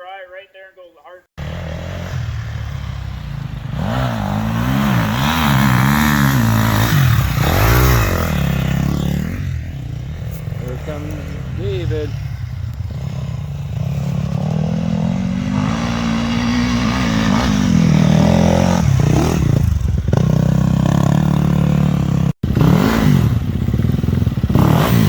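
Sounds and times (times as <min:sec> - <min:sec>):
dirt bike engine revving: 0:01.4 - 0:25.0.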